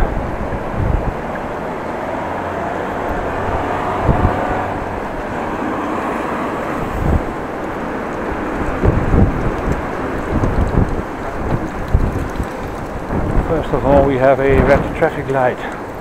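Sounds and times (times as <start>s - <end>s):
road traffic: 0.0s - 16.0s
wind rushing over microphone: 0.0s - 16.0s.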